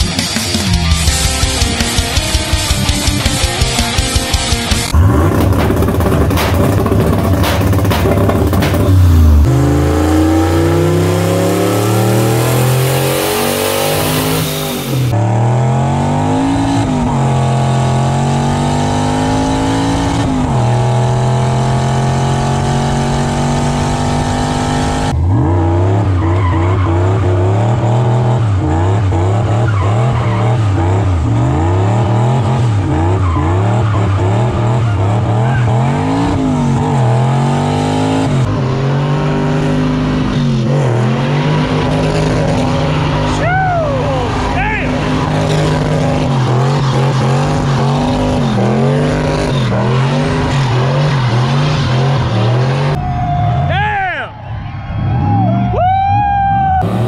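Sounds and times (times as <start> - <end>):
car engine revving: 0.0 - 53.0, 56.8 - 57.0.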